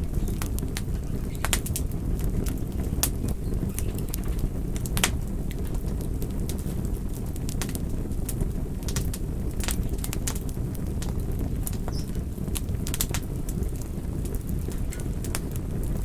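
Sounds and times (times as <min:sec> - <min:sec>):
burning wood crackling and popping: 0:00.0 - 0:16.0
campfire flames rumbling: 0:00.0 - 0:16.0.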